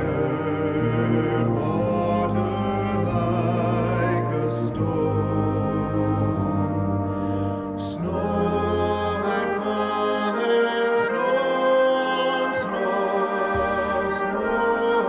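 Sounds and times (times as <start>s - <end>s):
brass band playing slow chords: 0.0s - 15.0s.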